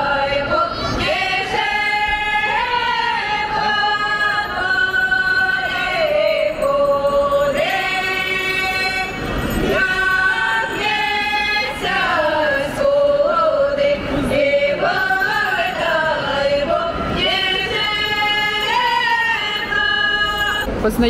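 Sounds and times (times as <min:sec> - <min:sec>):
women's choir singing unaccompanied: 0:00.0 - 0:20.7.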